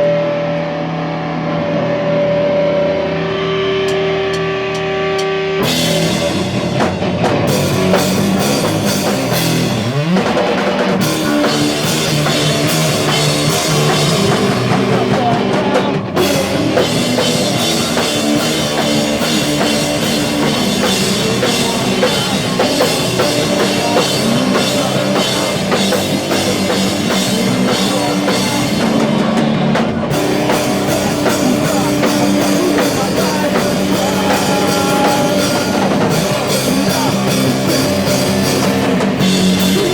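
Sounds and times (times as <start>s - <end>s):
guitar slide: 0.0s - 39.9s
rock band playing live: 0.0s - 39.9s.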